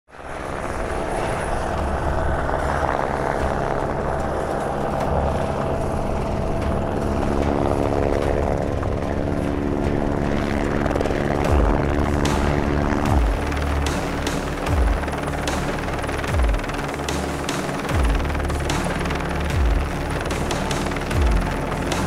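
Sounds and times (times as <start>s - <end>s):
helicopter rotor hovering: 0.1s - 22.0s.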